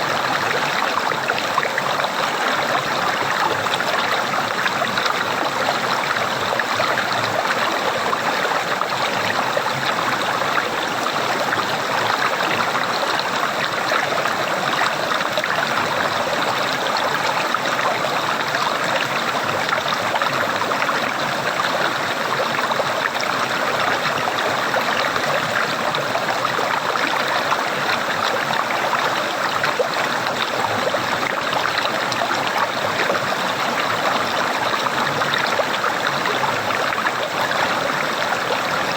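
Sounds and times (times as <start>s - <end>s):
water gurgling: 0.0s - 38.9s.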